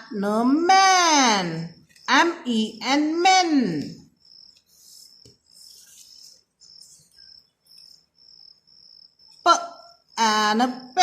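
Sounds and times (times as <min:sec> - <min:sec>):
faint cricket chirping: 0:00.0 - 0:11.0.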